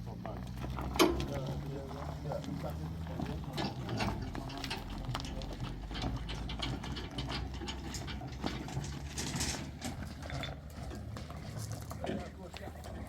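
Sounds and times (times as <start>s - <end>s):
clattering clicks and knocks: 0.6s - 1.5s, 3.2s - 13.0s.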